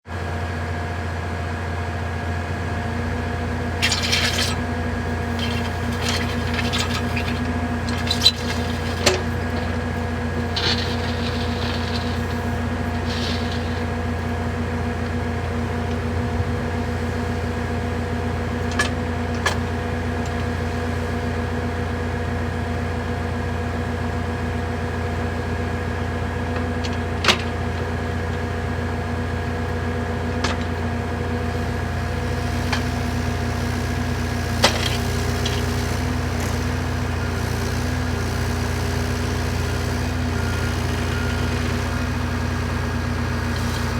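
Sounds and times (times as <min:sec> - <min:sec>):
diesel engine idling: 0:00.1 - 0:43.9.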